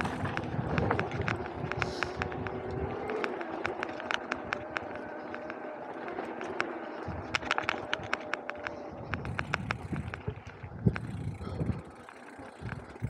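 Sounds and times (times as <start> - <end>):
bike ticking and rattling: 0.0 - 13.0
wind rumble on microphone: 0.0 - 13.0.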